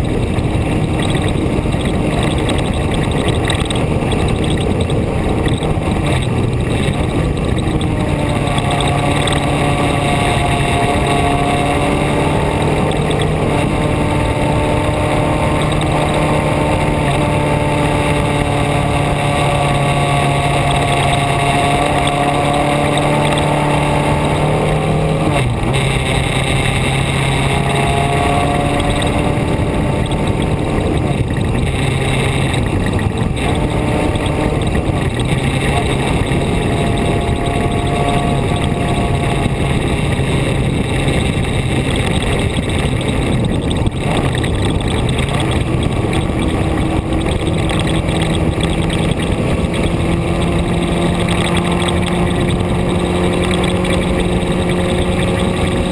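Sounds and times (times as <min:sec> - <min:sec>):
constant rushing noise: 0:00.0 - 0:55.9
vehicle engine running: 0:00.0 - 0:55.9.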